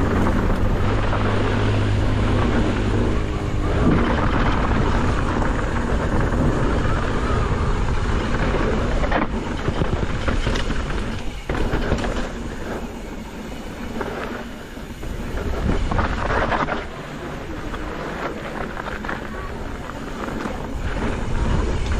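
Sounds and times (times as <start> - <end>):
bike clattering over bumps: 0.0 - 21.9
bike hitting roots or rocks: 0.0 - 21.9
bike tyre roar on dirt: 0.0 - 21.9
wind on microphone: 0.0 - 21.9.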